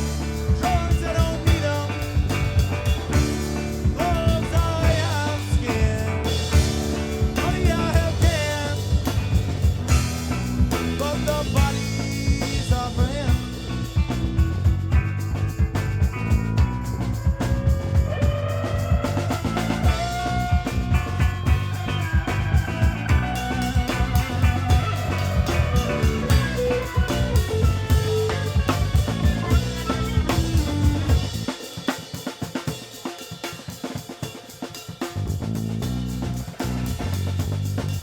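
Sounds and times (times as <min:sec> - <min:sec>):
drum kit beating: 0:00.0 - 0:38.0
rock band playing: 0:00.0 - 0:38.0.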